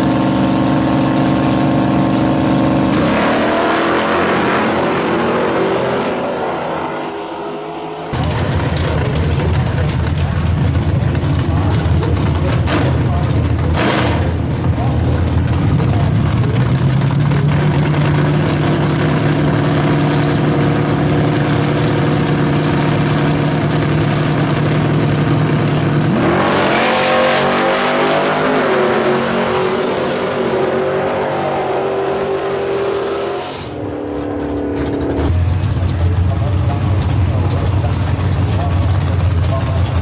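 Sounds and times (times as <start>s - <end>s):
engine running steadily: 0.0s - 5.6s, 7.2s - 33.0s, 33.7s - 40.0s
drag car engines revving: 0.0s - 40.0s.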